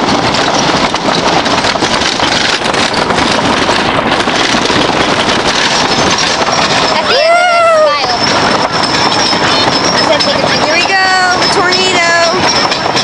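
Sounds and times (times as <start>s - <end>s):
roller coaster train rattling: 0.0s - 13.0s
wind rushing over microphone: 0.0s - 13.0s.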